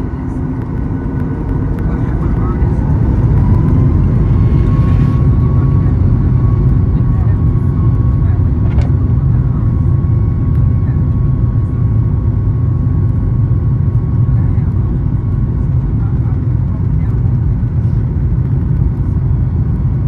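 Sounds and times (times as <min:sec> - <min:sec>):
aircraft cabin low rumble: 0:00.0 - 0:20.0.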